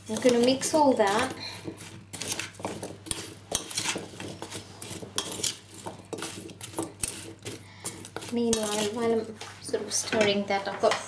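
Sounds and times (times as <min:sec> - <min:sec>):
spoon scraping metal bowl: 0:00.0 - 0:11.0.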